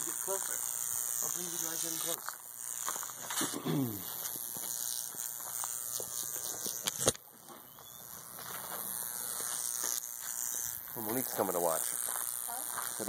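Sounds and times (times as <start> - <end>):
electric arc buzzing and crackling: 0.0 - 13.0
sharp electric snap: 0.0 - 13.0.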